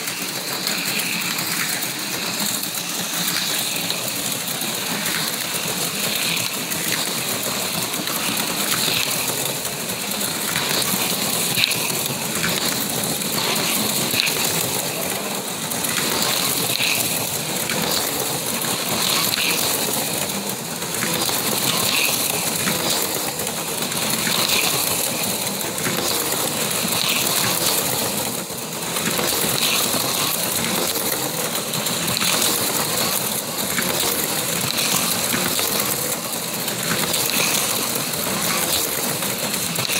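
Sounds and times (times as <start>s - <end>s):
slot cars rattling: 0.0s - 39.9s.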